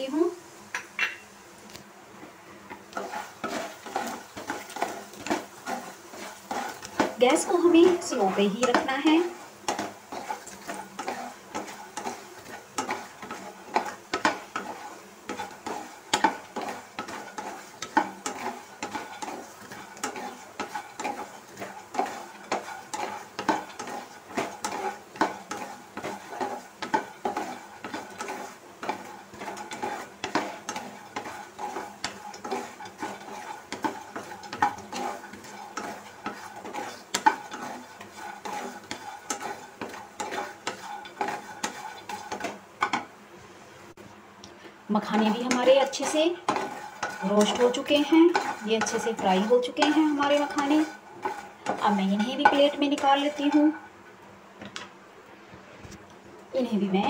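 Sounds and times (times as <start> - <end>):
light sizzle of frying: 0.0 - 57.0
spatula scraping and tapping pan: 0.7 - 1.8, 2.6 - 43.2, 44.0 - 53.9.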